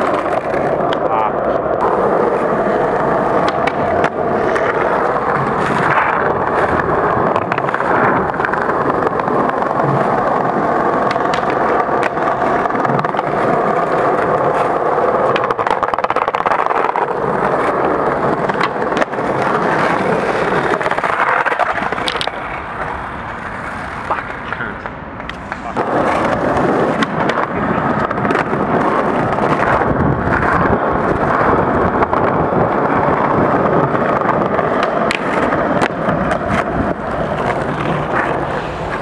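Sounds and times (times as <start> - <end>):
skateboard clacks: 0.0 - 39.0
skateboard rolling on stone: 0.0 - 39.0.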